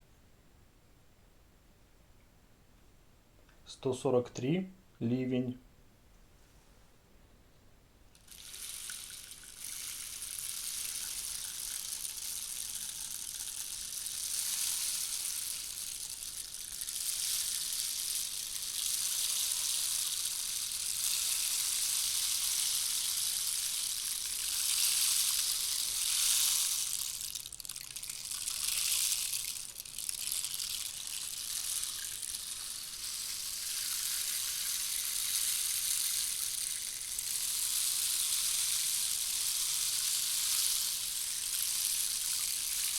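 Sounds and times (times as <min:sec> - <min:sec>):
rainstick rushing: 0:08.1 - 0:42.9.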